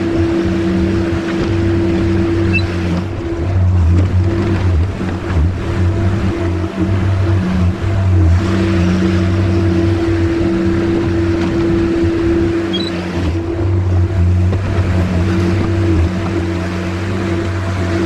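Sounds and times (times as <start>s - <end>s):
skid steer engine running: 0.0s - 18.0s.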